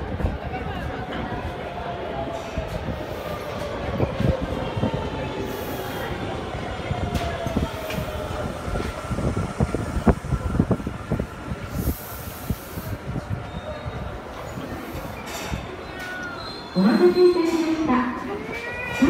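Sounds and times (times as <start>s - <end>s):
low train rumble: 0.0s - 19.0s.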